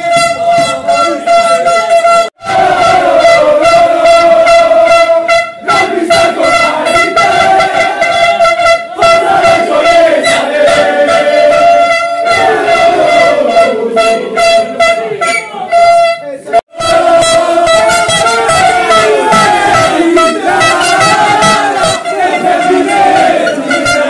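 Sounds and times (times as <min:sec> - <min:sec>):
plastic horns blowing: 0:00.0 - 0:24.0
men shouting and chanting: 0:00.1 - 0:24.0.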